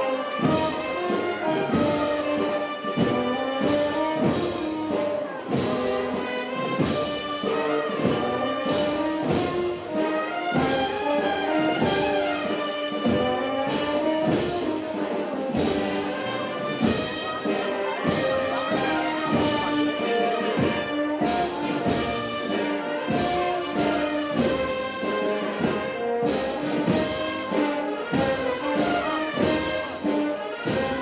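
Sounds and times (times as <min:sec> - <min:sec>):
brass band playing a march: 0:00.0 - 0:31.0
drum strikes: 0:00.0 - 0:31.0.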